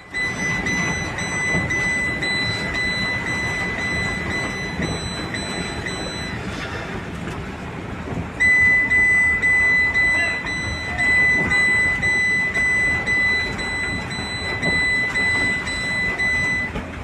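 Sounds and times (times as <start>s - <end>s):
high electronic ticking tone: 0.0s - 6.4s, 8.4s - 16.8s.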